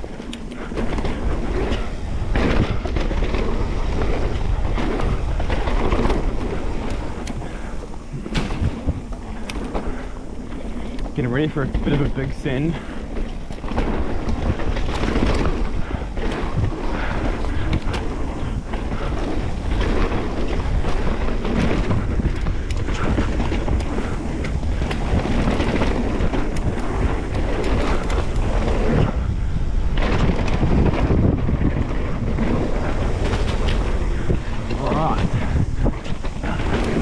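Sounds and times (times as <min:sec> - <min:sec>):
bike knocking and rattling: 0:00.0 - 0:37.0
tyres rolling on dirt: 0:00.0 - 0:37.0
wind rushing over microphone: 0:00.0 - 0:37.0.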